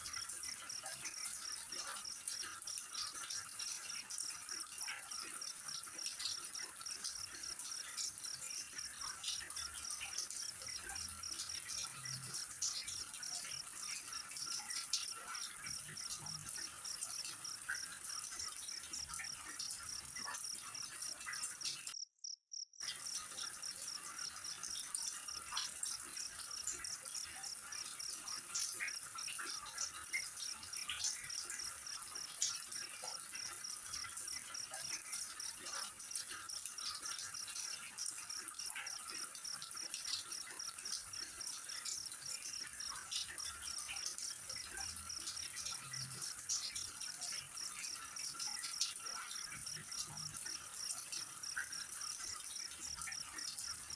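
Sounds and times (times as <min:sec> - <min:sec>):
cricket chirping: 0:00.0 - 0:53.9.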